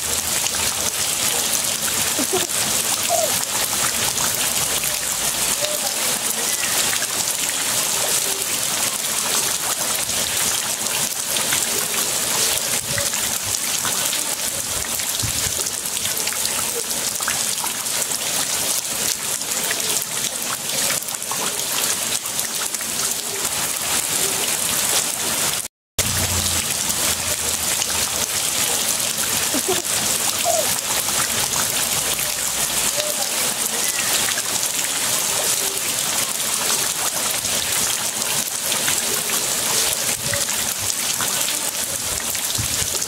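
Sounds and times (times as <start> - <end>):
rain falling on concrete and water: 0.0 - 43.0.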